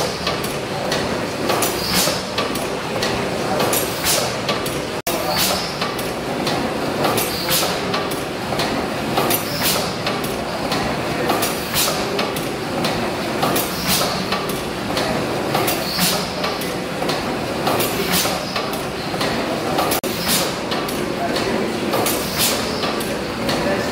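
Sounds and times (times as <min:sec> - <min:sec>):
sharp mechanical clicks and knocks: 0:00.0 - 0:23.7.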